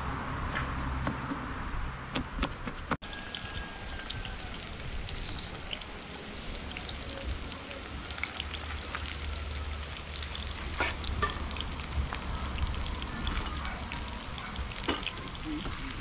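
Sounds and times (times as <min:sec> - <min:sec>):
food sizzling in hot oil: 0:03.0 - 0:16.0.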